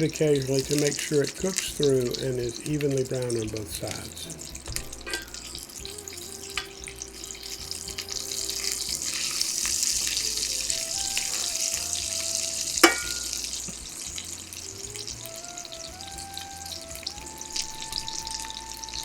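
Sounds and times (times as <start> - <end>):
chicken frying in oil: 0.0 - 19.0
faint background music: 0.0 - 19.0.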